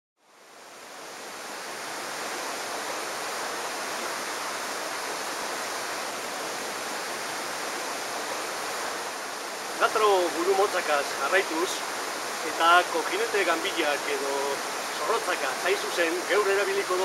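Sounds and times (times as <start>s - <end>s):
water rushing over rocks: 0.2s - 17.0s.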